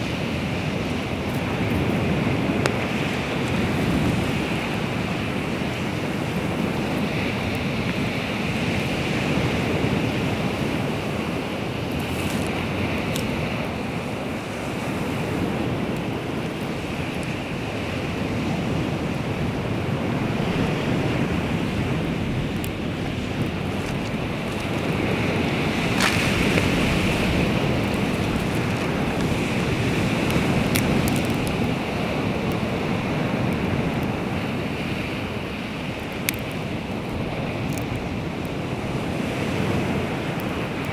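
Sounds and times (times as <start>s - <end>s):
waves washing on shore: 0.0s - 40.9s.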